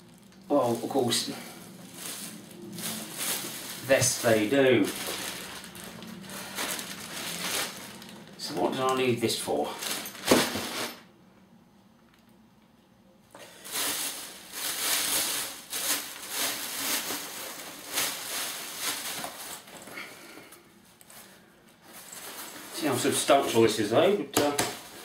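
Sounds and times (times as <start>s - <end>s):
plastic wrapping crinkling: 0.0s - 11.1s, 13.4s - 25.0s.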